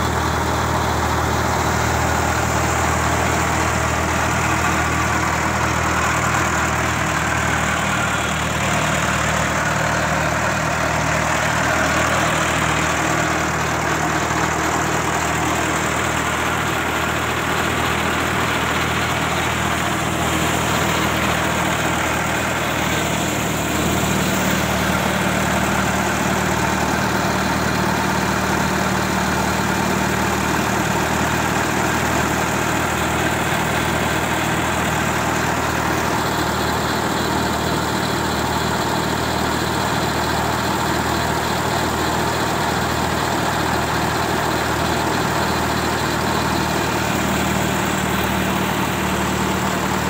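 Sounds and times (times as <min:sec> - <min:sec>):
tractor diesel engine idling: 0:00.0 - 0:50.0.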